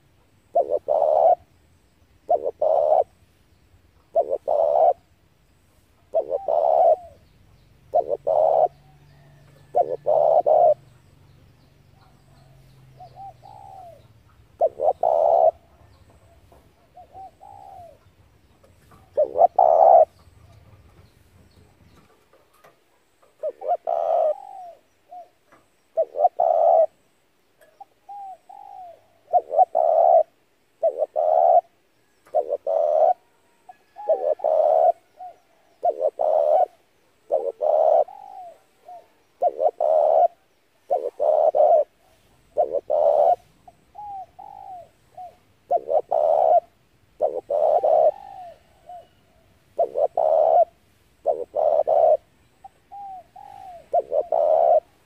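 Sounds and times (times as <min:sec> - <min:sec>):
dove cooing: 0:00.0 - 0:03.2, 0:04.0 - 0:05.2, 0:06.0 - 0:55.0.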